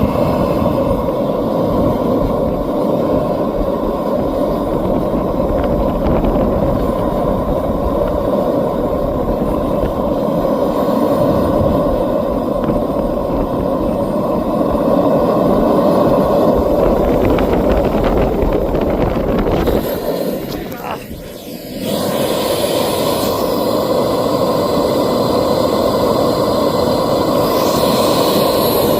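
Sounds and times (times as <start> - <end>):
faint high whine: 0.0 - 28.9
model jet turbine roaring: 0.0 - 28.9.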